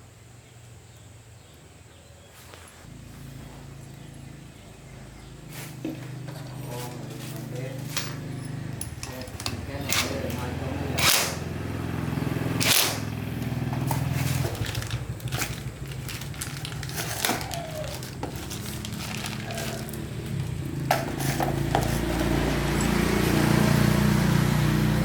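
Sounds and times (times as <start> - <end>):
motorbike engine running: 2.9 - 25.0.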